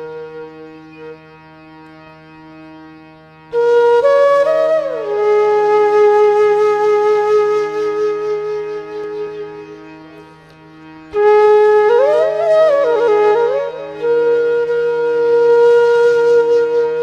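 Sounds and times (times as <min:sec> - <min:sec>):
flute-like wind instrument: 0:00.0 - 0:02.3, 0:03.4 - 0:17.0
steady drone: 0:00.0 - 0:17.0.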